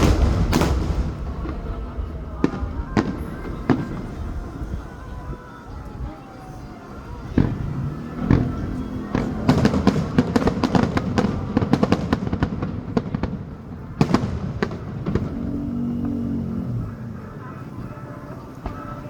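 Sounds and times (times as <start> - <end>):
fireworks cracking and popping: 0.0 - 5.6, 7.2 - 16.2, 17.9 - 19.0.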